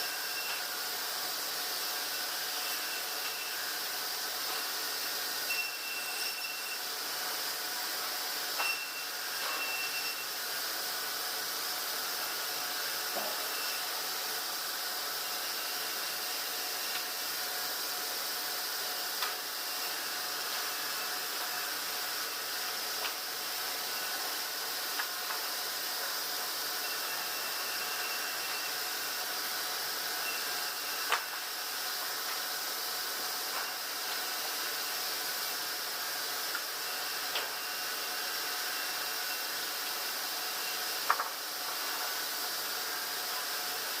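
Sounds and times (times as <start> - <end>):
steady mechanical hiss: 0.0 - 44.0.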